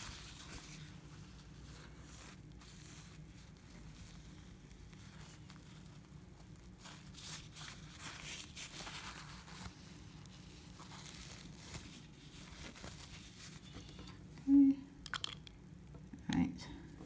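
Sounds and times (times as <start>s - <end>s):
paper towel rustling and crinkling: 0.0s - 14.2s.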